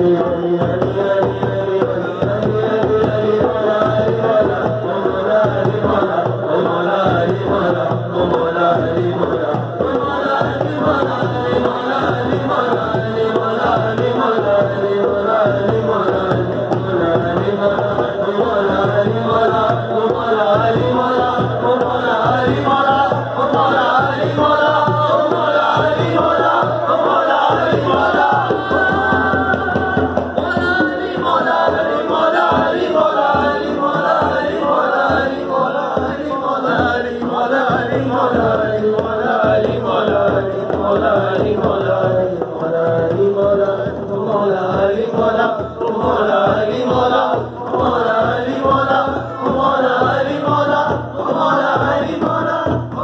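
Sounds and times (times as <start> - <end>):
hand drum beat: 0.0 - 53.0
lead singer through microphone: 0.0 - 53.0
men singing: 0.0 - 53.0.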